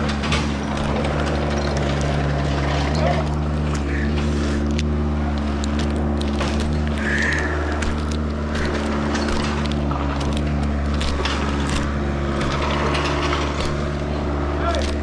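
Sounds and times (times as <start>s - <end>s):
clicks and knocks: 0.0s - 15.0s
engine running steadily: 0.0s - 15.0s.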